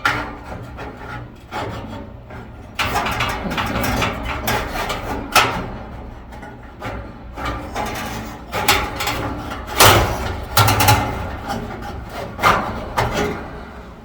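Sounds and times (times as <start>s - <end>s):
metal clanks and scrapes: 0.0s - 13.7s.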